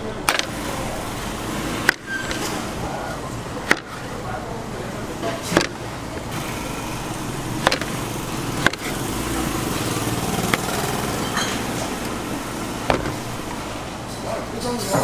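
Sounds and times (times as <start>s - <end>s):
steady mechanical running noise: 0.0s - 15.0s.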